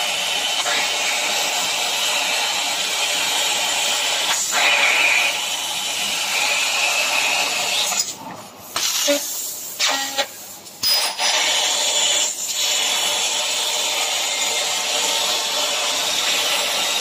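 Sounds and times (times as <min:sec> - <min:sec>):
laser cutter gas jet hissing: 0:00.0 - 0:17.0.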